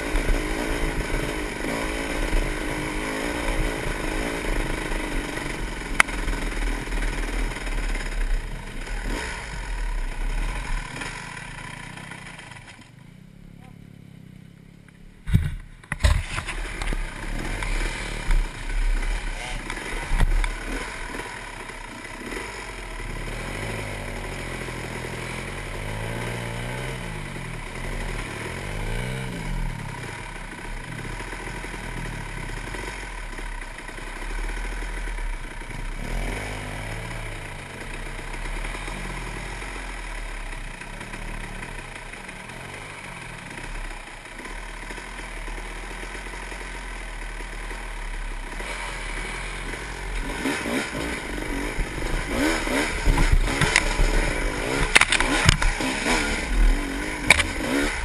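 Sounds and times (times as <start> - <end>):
dirt bike engine revving: 0.0 - 13.3, 15.2 - 58.0.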